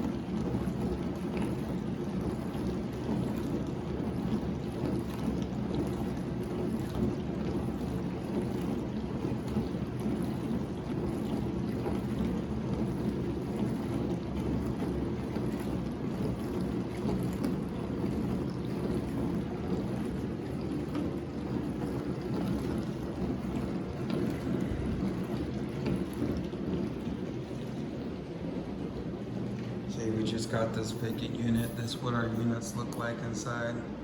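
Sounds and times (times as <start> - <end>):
dishwasher water rushing: 0.0 - 34.0.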